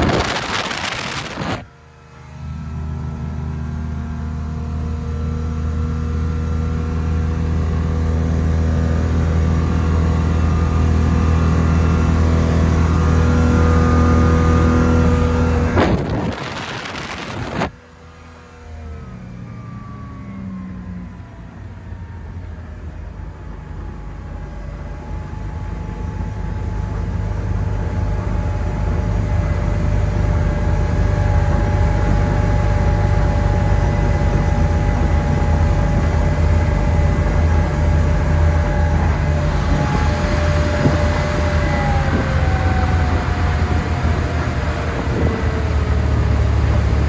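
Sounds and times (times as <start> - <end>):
boat engine at high speed: 0.0 - 47.0.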